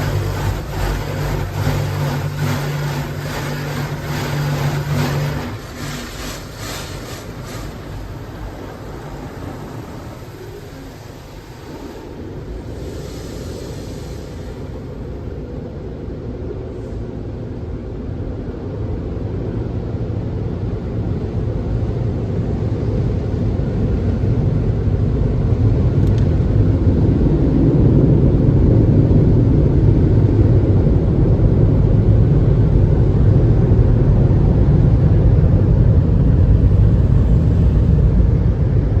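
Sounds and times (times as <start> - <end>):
car wash machinery rumble: 0.0 - 39.0.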